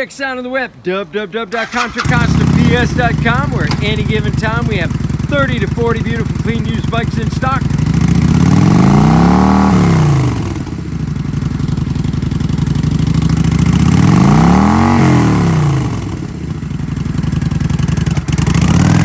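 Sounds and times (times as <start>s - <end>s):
motorcycle engine idling and revving: 1.5s - 19.0s.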